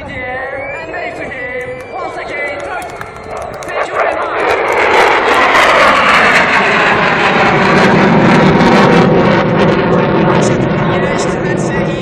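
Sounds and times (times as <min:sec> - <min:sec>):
fighter jet roar: 0:00.4 - 0:12.0.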